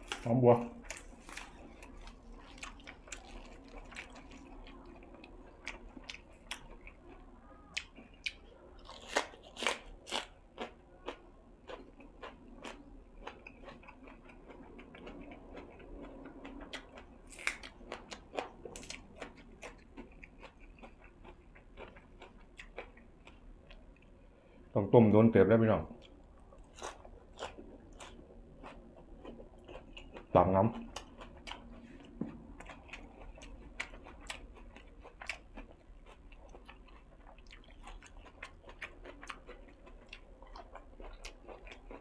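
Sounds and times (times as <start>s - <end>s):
food crunching: 0.0s - 24.2s, 25.9s - 42.0s
person chewing food: 0.0s - 24.7s, 26.0s - 42.0s.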